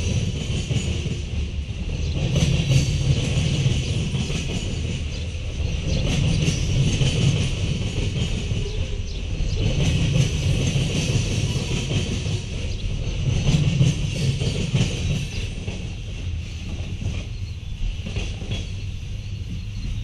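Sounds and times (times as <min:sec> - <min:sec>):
train cars rumbling on track: 0:00.0 - 0:20.0.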